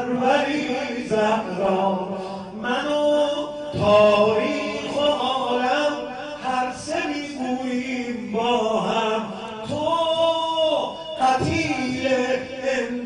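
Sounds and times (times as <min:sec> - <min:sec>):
man chanting through a microphone: 0:00.0 - 0:13.0.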